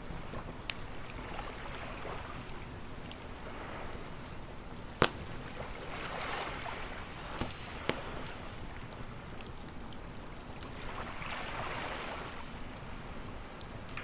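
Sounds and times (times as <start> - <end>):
campfire crackling and popping: 0.0 - 1.7, 2.4 - 11.7, 12.3 - 14.0
ocean waves washing on shore: 0.0 - 14.0.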